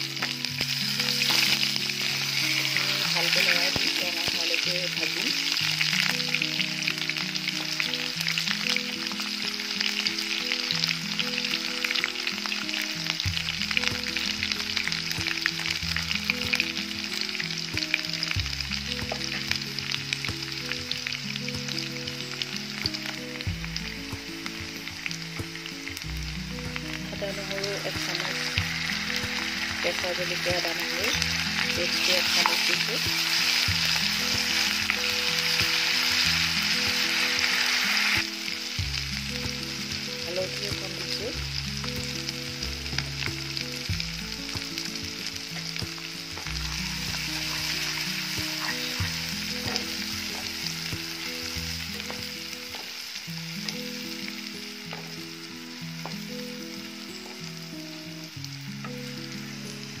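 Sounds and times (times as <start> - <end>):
food sizzling in hot oil: 0.0 - 60.0
soft background music: 0.0 - 60.0.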